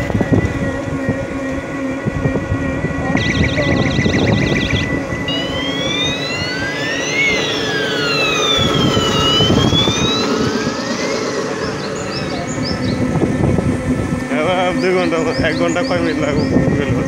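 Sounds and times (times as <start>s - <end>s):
electronic siren wailing: 0.0s - 17.0s
moving vehicle rumble and road noise: 0.0s - 17.0s.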